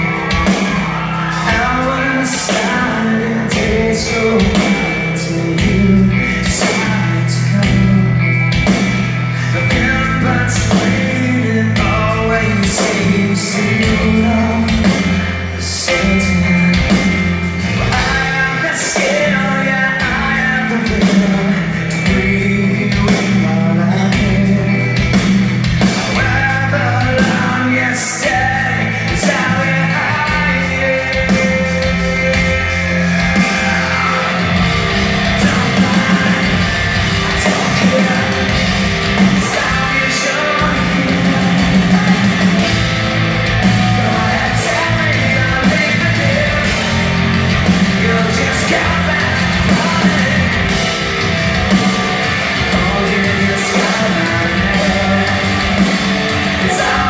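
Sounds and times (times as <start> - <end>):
bass guitar: 0.0 - 57.0
drum kit: 0.0 - 57.0
electric guitar: 0.0 - 57.0
man singing: 0.0 - 57.0.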